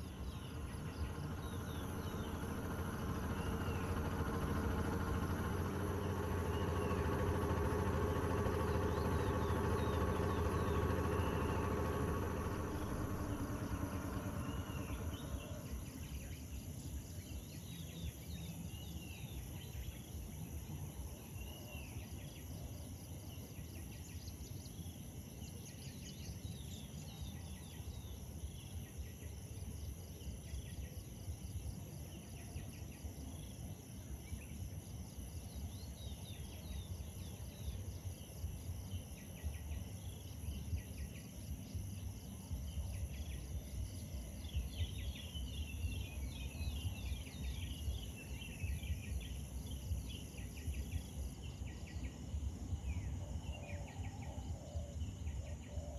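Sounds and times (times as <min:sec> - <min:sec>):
bird chirping: 0:00.0 - 0:55.9
insects buzzing: 0:00.0 - 0:55.9
low motor hum: 0:00.0 - 0:55.9.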